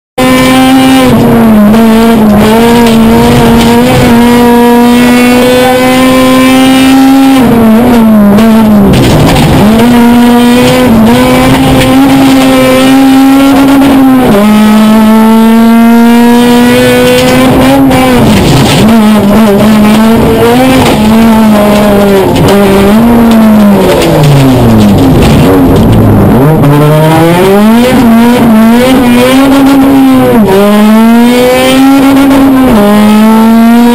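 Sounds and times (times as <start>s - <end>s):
car engine at high revs: 0.1s - 33.9s.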